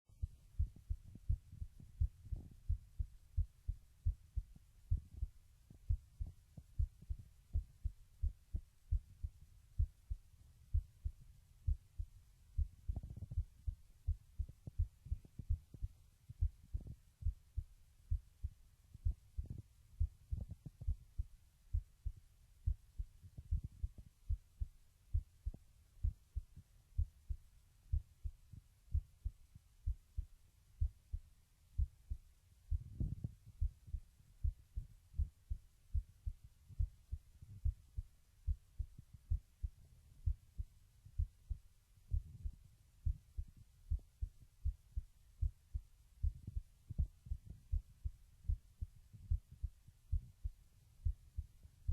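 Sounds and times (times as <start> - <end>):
heartbeat thumps: 0.1 - 31.2, 31.8 - 51.9.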